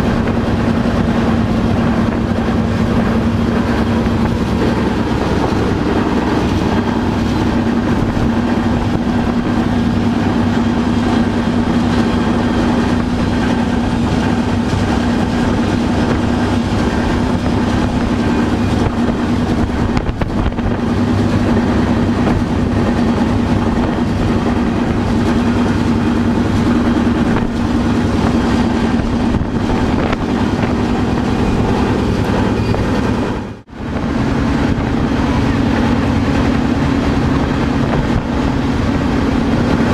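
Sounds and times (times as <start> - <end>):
constant low hum: 0.0 - 39.9
train rumble and rail noise: 0.0 - 39.9.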